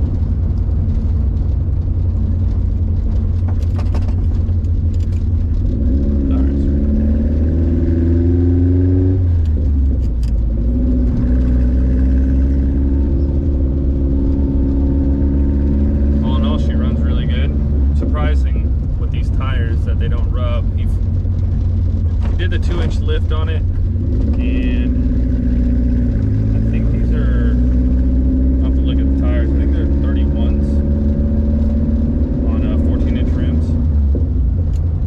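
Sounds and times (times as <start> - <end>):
low road rumble: 0.0 - 35.0
truck engine accelerating: 0.0 - 35.0.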